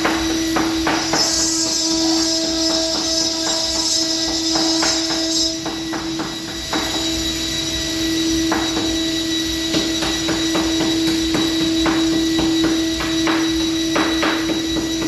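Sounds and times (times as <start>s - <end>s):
engraving spindle whine: 0.0s - 15.0s.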